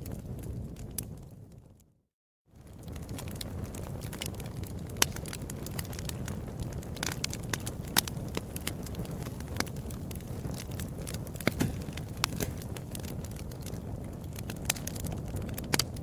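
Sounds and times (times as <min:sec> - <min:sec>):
fire snaps and pops: 0:00.0 - 0:01.9, 0:02.6 - 0:16.0
fire burning rumble: 0:00.0 - 0:16.0.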